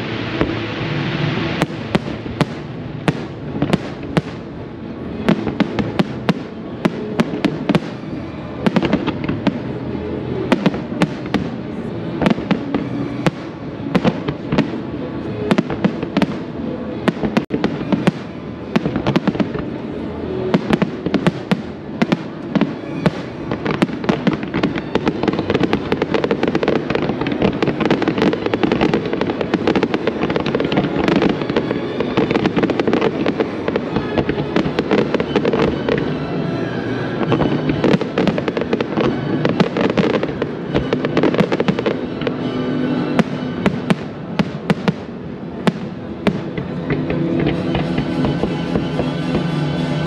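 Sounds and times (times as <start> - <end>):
fireworks bangs and crackles: 0.0 - 50.0
music: 0.0 - 50.0.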